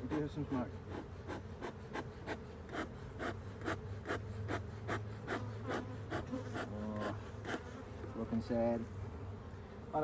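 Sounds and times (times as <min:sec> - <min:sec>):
honey bees humming: 0:00.0 - 0:10.0.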